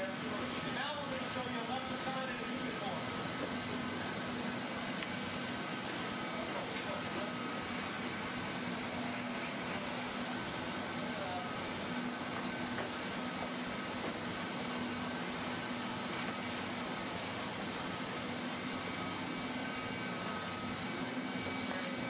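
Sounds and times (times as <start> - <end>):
hot-air welder blower hissing: 0.0 - 22.0.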